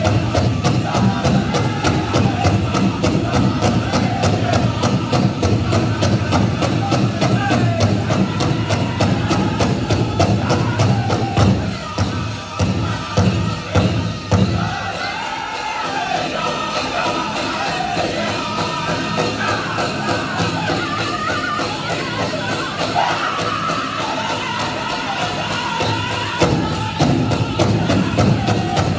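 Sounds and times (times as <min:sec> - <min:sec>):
fast steady drumbeat: 0:00.0 - 0:28.9
group singing: 0:00.0 - 0:28.9
heavy spaced drum beats: 0:00.0 - 0:28.9.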